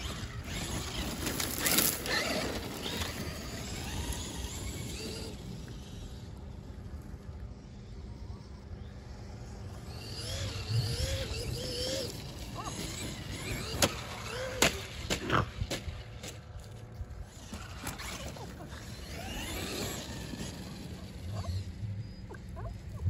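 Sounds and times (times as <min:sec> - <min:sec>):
toy truck electric motor whining: 0:00.0 - 0:22.9.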